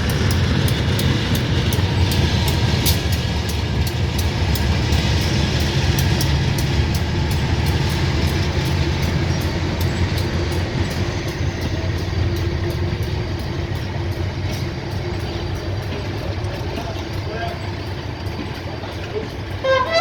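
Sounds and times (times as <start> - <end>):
diesel locomotive engine rumble: 0.0 - 20.0
fast even ticking of train: 0.0 - 20.0.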